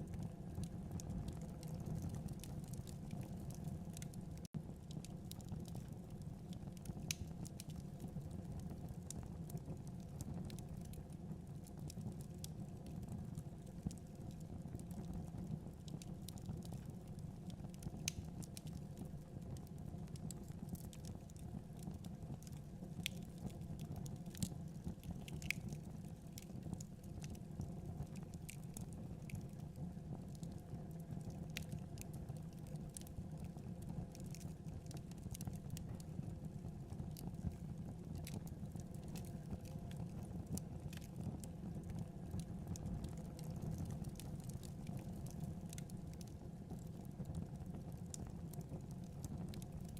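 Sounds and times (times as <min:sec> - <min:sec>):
fire crackling in fireplace: 0:00.0 - 0:49.9.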